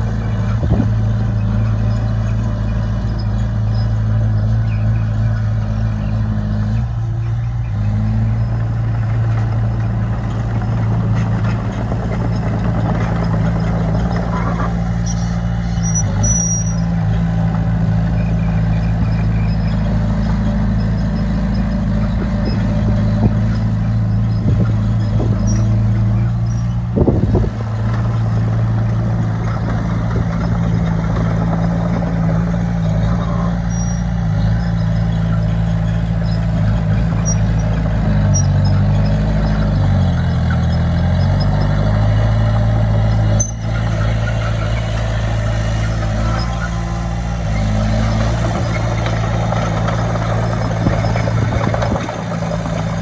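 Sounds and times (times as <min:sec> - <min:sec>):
heavy diesel engine under load: 0:00.0 - 0:53.0.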